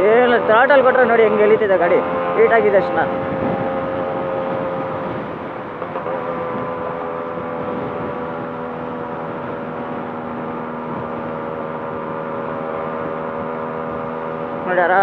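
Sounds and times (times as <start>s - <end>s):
two-stroke motorcycle engine cruising: 0.0s - 15.0s.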